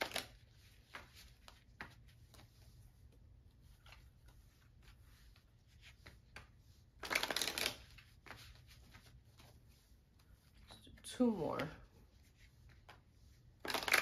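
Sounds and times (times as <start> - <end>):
cards being shuffled: 0.0 - 10.7, 11.6 - 14.0.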